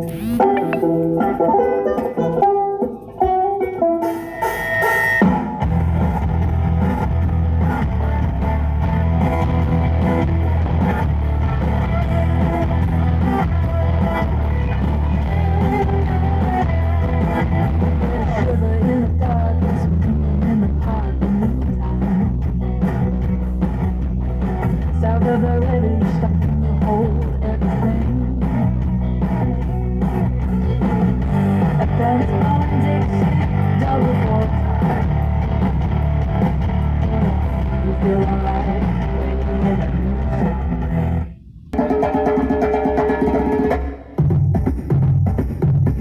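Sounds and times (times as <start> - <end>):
heavy steady bass: 0.0 - 1.3, 5.3 - 42.2
loud music with guitar: 0.0 - 46.0.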